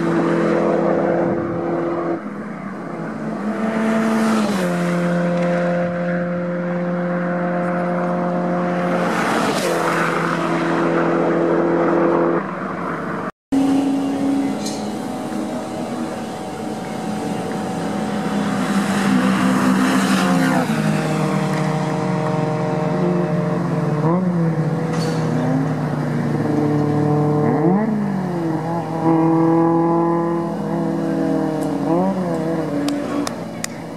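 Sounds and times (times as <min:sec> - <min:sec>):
race car engine at high revs: 0:00.0 - 0:33.9.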